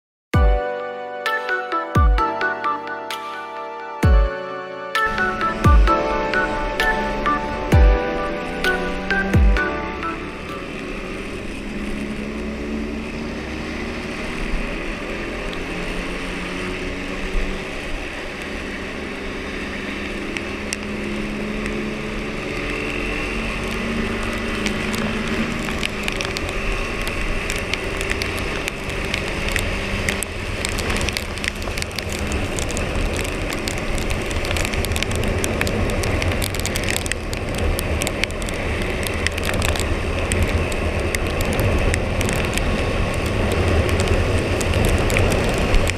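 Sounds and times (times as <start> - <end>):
rain crackling on microphone: 0.6 - 45.9.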